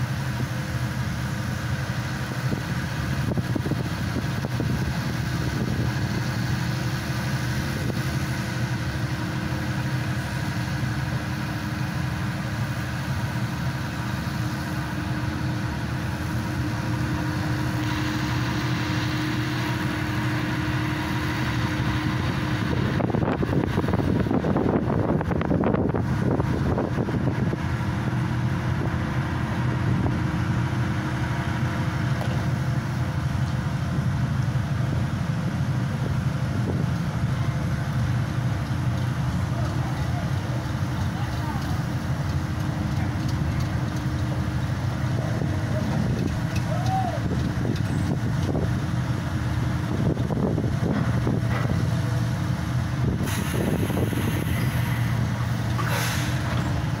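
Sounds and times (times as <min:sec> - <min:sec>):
diesel engine and hydraulic pump: 0:00.0 - 0:57.0.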